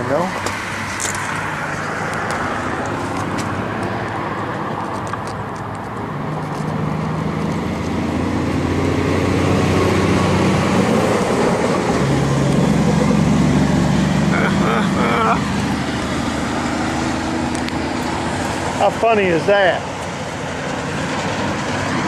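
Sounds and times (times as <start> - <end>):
road traffic noise: 0.0 - 22.0
vehicle engine running: 0.7 - 22.0.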